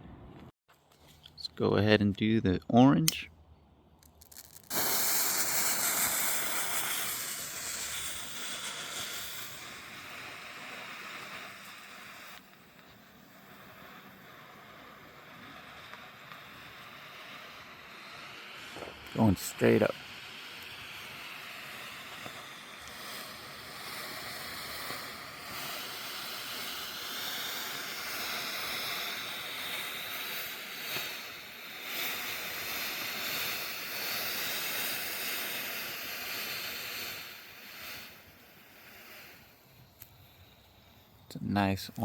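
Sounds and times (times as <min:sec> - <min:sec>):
smoke firework hissing: 0:04.0 - 0:42.0.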